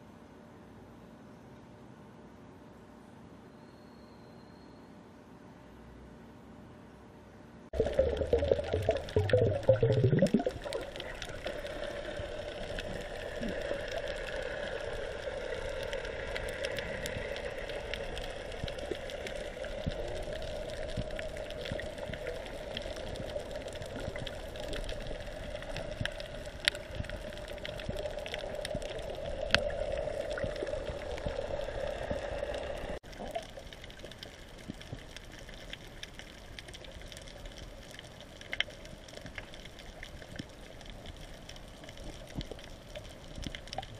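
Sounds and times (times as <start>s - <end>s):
muffled underwater wash: 7.8s - 43.9s.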